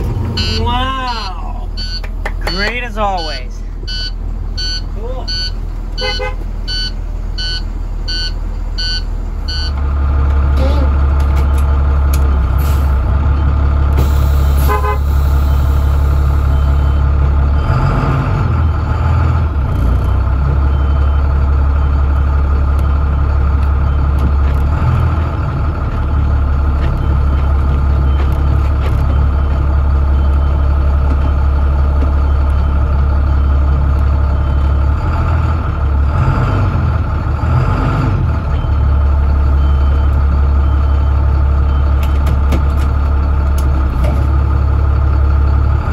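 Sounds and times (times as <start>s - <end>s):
diesel bus engine running: 0.0s - 45.9s.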